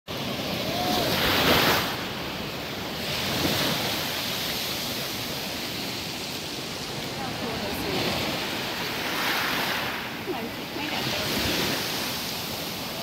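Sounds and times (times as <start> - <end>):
surf washing over pebbles: 0.1 - 13.0.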